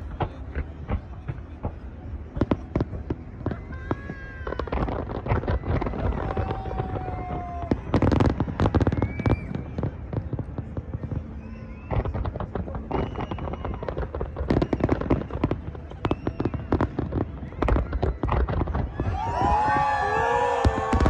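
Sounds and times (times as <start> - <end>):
fireworks bangs and crackling: 0.0 - 21.0
fireworks whistling: 2.4 - 21.0.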